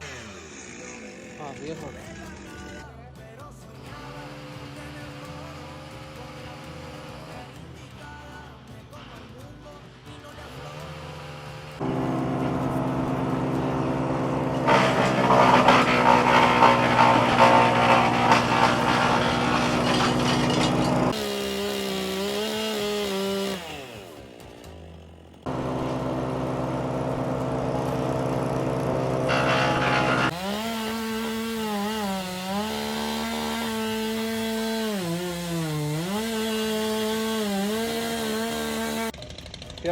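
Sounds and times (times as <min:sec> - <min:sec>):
chainsaw cutting wood: 0:00.0 - 0:02.8, 0:03.9 - 0:07.8, 0:10.4 - 0:39.9.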